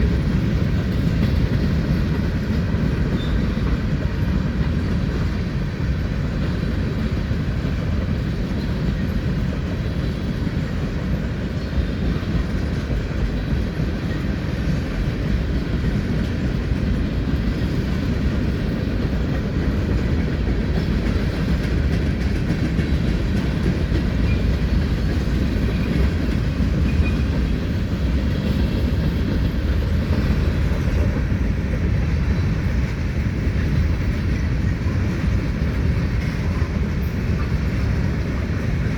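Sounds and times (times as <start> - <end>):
freight train rumbling: 0.0 - 38.9
wheels clickety-clack on rails: 0.0 - 38.9.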